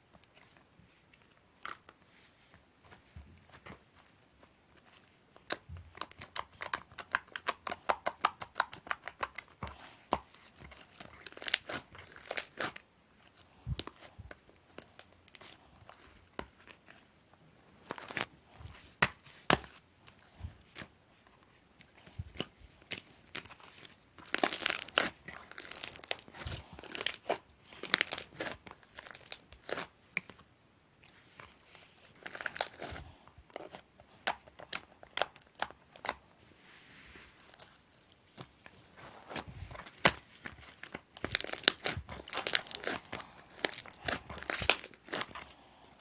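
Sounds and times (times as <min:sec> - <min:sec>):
crinkling and tearing handling: 0:00.1 - 0:30.4, 0:31.0 - 0:36.3, 0:36.9 - 0:46.0.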